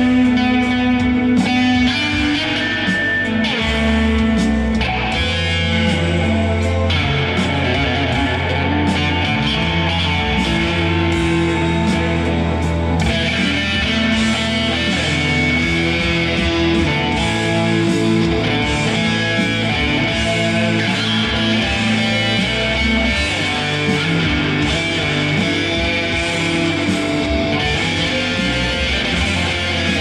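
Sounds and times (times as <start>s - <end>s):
electric guitar sustained notes: 0.0s - 30.0s.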